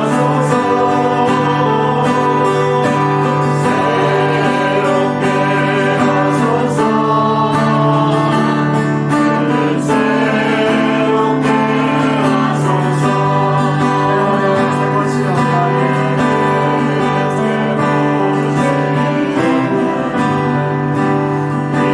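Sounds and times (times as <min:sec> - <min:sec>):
group singing worship song: 0:00.0 - 0:21.9
guitar and instruments: 0:00.0 - 0:21.9.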